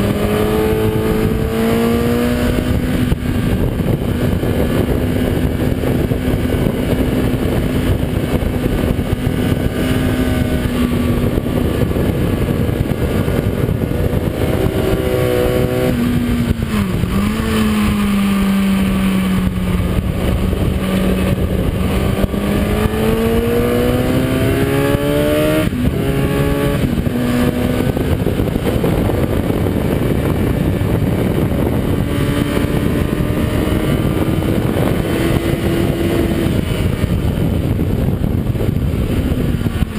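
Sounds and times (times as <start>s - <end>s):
motorcycle engine: 0.0s - 39.9s
wind rushing: 0.0s - 39.9s.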